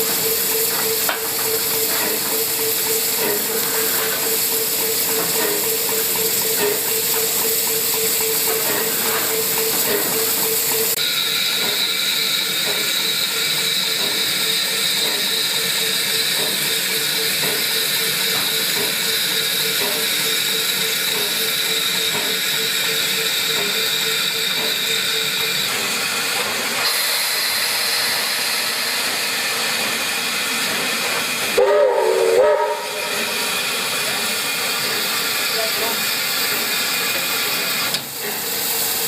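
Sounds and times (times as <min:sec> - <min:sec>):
steam locomotive hissing: 0:00.0 - 0:39.0.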